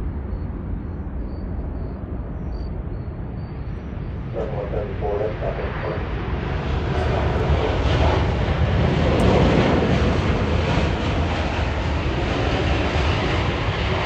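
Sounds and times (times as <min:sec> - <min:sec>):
jet engines rumbling overhead: 0:00.0 - 0:14.0.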